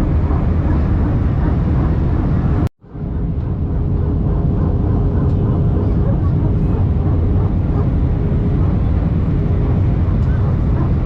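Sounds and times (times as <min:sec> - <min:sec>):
airliner cabin engine noise: 0:00.0 - 0:11.0.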